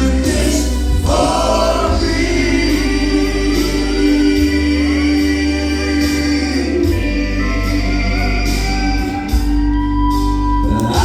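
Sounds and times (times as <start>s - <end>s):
instrumental accompaniment: 0.0s - 11.0s
voices singing in harmony: 0.0s - 11.0s.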